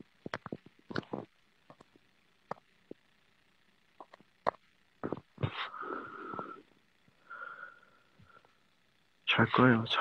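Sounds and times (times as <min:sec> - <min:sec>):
faint steady tone: 0:00.0 - 0:10.0.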